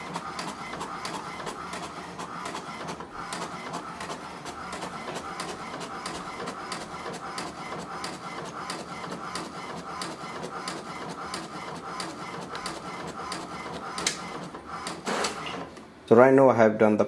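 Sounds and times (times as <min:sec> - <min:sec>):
print head clicking: 0:00.0 - 0:15.7
printer motor whirring: 0:00.0 - 0:15.8.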